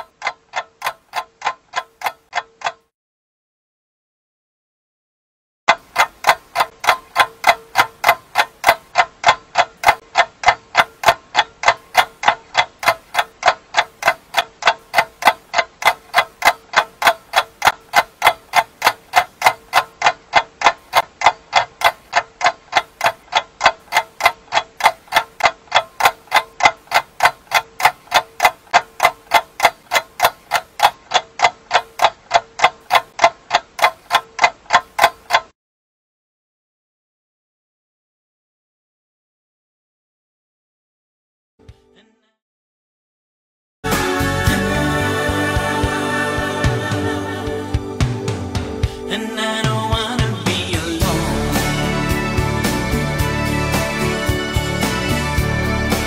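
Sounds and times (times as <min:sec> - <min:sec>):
clock ticking: 0:00.0 - 0:02.9, 0:05.7 - 0:35.5, 0:43.9 - 0:56.0.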